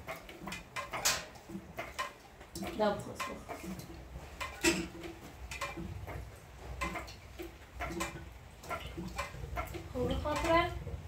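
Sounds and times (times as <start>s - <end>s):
light taps and clicks: 0.0s - 11.0s.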